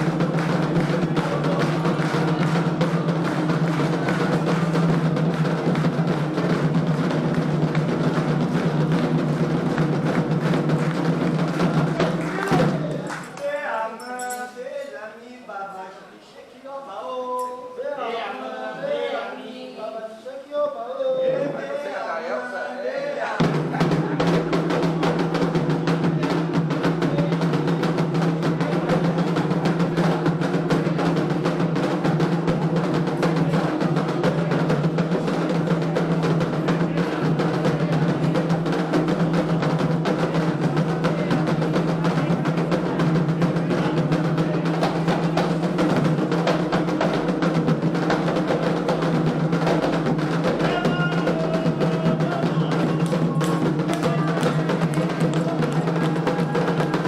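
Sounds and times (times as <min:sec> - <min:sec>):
hand drums playing fast rhythm: 0:00.0 - 0:13.1, 0:23.4 - 0:57.0.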